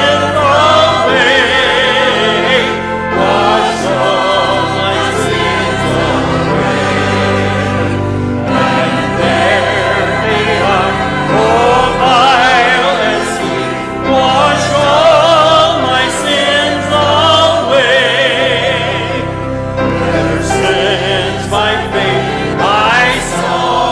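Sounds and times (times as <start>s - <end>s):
sustained low accompaniment: 0.0s - 23.9s
voices singing a hymn: 0.0s - 23.9s.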